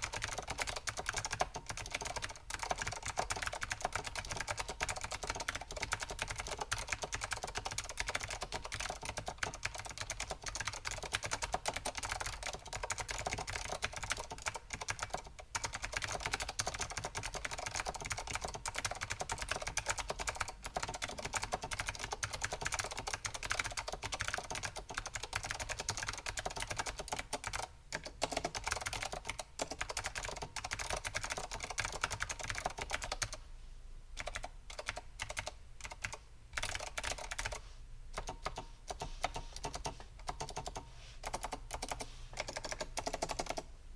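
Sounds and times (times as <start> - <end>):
fast clicky keyboard typing: 0.0 - 33.4, 34.2 - 37.6, 38.2 - 43.7.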